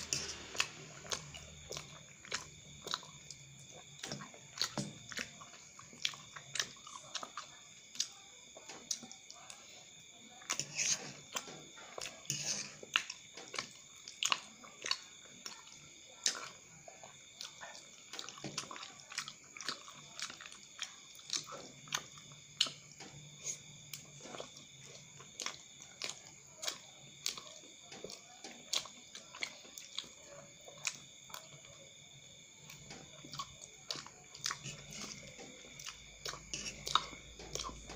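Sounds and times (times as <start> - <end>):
wet chewing and lip-smacking: 0.0 - 10.6, 11.2 - 37.9.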